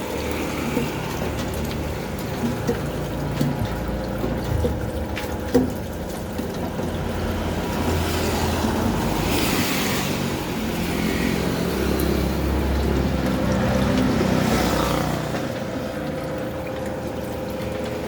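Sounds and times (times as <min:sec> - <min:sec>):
juice press motor hum: 0:00.0 - 0:18.0.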